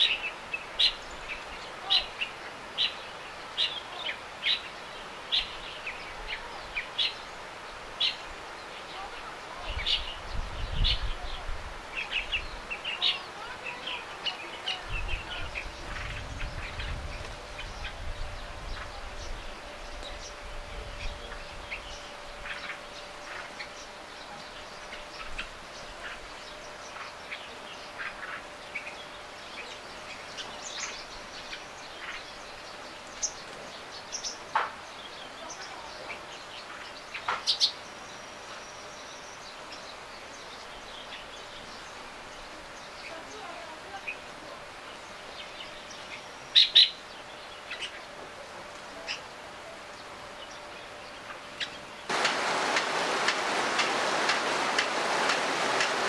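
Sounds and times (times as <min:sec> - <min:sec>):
birds chirping: 0:00.0 - 0:56.0
steady outdoor hiss: 0:00.0 - 0:56.0.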